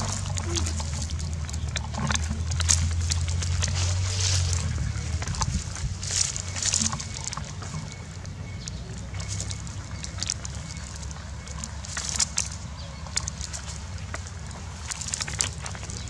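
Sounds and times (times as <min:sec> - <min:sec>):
dry palm fronds crackling: 0:00.0 - 0:16.0
steady low rumble: 0:00.0 - 0:16.0.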